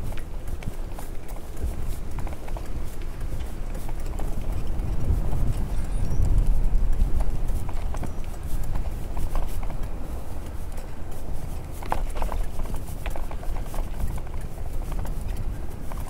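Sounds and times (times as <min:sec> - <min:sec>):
bicycle rattling and clicking: 0:00.0 - 0:16.0
wind buffeting microphone: 0:00.0 - 0:16.0.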